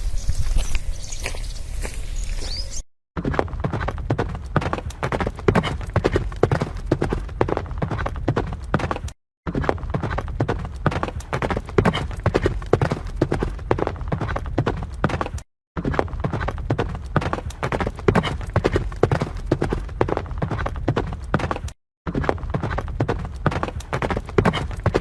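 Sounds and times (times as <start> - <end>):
horse hooves clip-clopping: 0.0 - 25.0.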